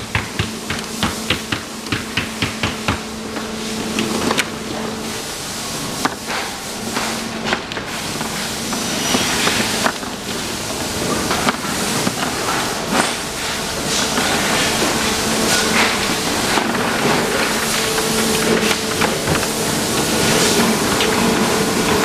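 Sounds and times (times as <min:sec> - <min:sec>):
steady hissing background noise: 0:00.0 - 0:22.0.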